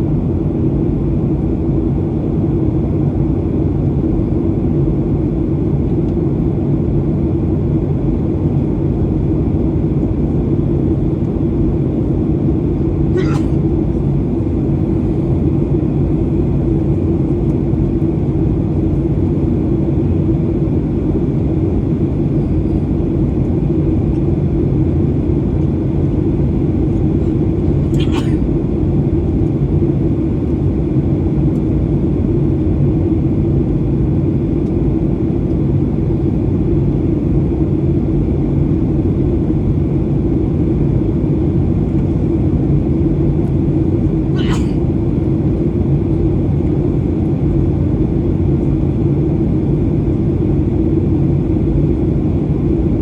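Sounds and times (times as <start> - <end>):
airplane cabin drone: 0.0 - 53.0.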